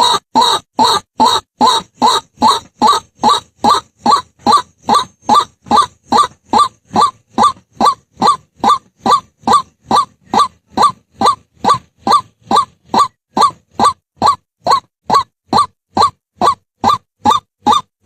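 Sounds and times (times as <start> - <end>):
waterhen calling: 0.0 - 17.9.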